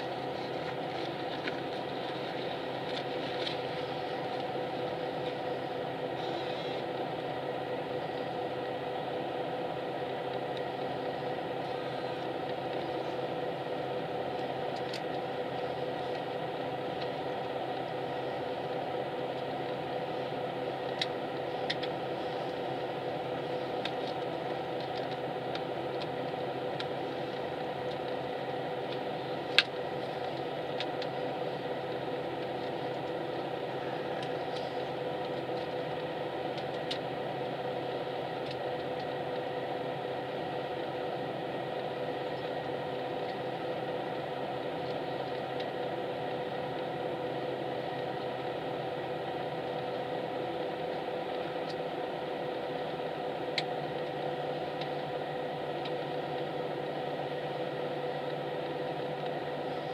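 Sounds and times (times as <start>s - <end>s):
bus engine idling hum: 0.0s - 59.9s.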